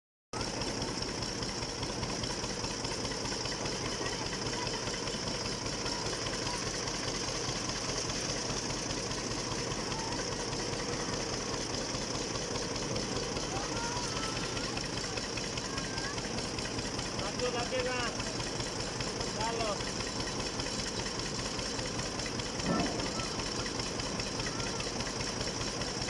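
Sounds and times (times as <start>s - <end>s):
washing machine droning and rattling: 0.4s - 26.0s.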